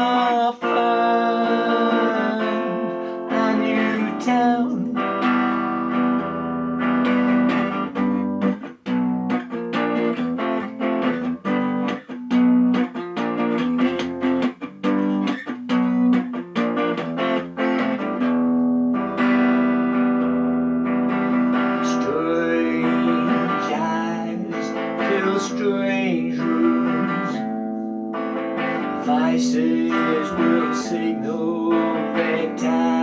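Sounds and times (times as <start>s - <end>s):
guitar chords: 0.0s - 33.0s.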